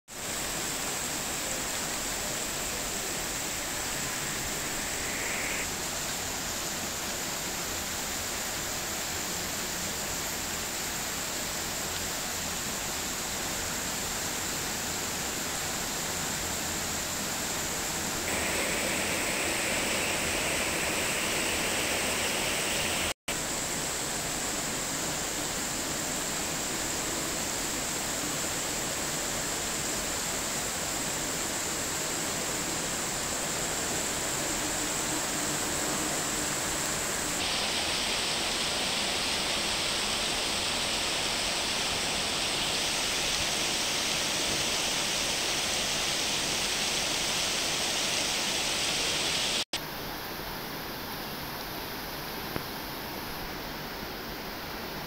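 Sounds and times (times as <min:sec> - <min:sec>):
heavy rain: 0:00.1 - 0:49.7.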